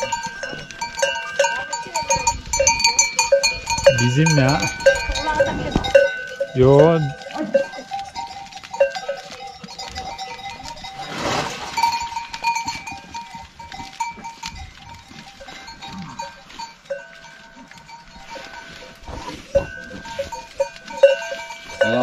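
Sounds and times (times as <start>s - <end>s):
goat bells ringing: 0.0s - 22.0s.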